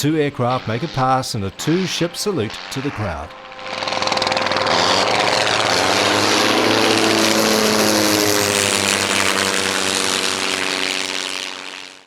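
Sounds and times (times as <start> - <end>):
propeller planes flying past: 0.0 - 12.0.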